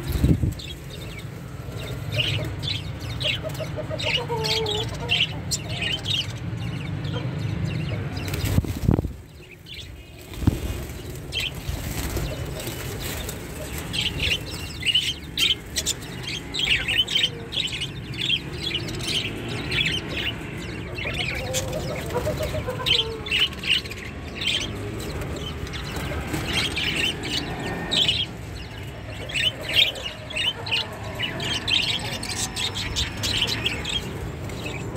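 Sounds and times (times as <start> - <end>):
budgerigars chirping: 1.8 - 34.9.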